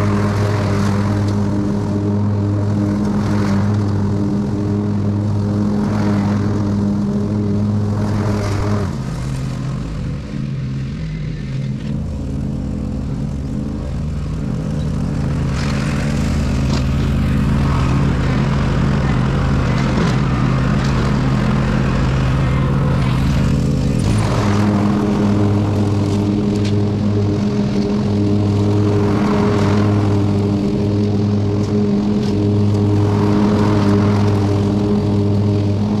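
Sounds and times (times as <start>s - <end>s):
ride-on lawn mower engine: 0.0s - 36.0s.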